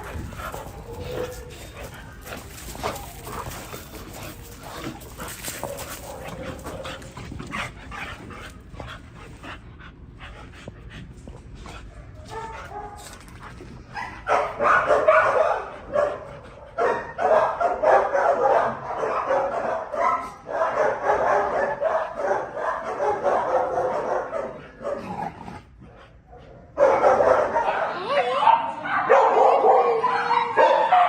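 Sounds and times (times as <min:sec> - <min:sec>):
dogs barking and yipping: 0:00.0 - 0:09.6, 0:11.7 - 0:25.4, 0:26.2 - 0:31.0.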